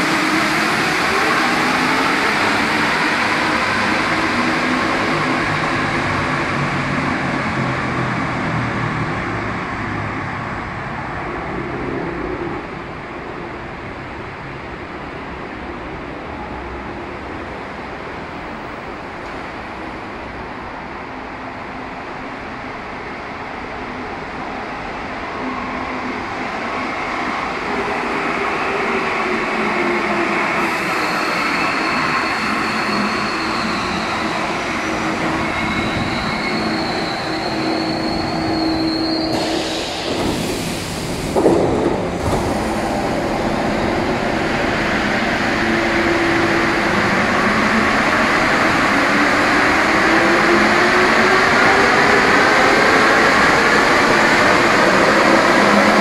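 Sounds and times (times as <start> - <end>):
metro train running: 0.0 - 56.0.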